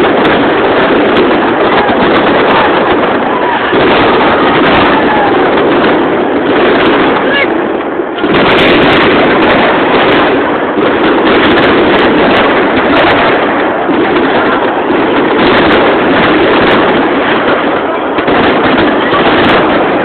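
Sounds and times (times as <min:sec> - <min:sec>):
crowd voices: 0:00.0 - 0:20.0
fireworks crackling and bursting: 0:00.0 - 0:20.0.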